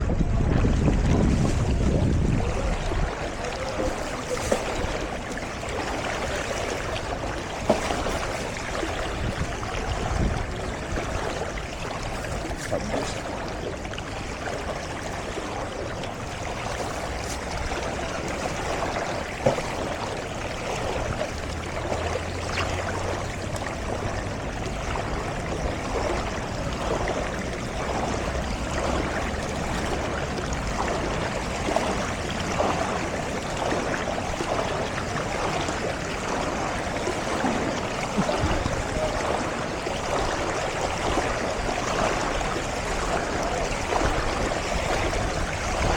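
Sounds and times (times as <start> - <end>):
floodwater rushing and sloshing: 0.0 - 45.9.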